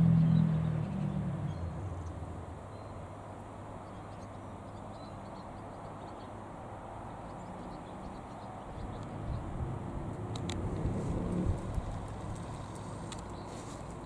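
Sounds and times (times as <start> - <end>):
distant light aircraft engine droning: 0.0 - 14.0.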